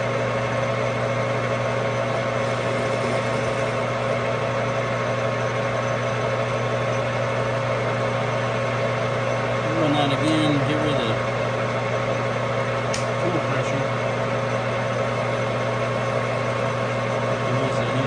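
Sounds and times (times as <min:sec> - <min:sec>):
metal lathe motor hum: 0:00.0 - 0:18.0.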